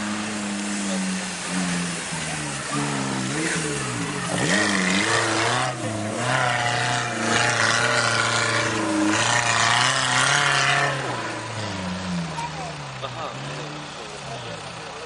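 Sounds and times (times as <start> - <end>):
off-road engine revving hard: 0.0 - 15.0.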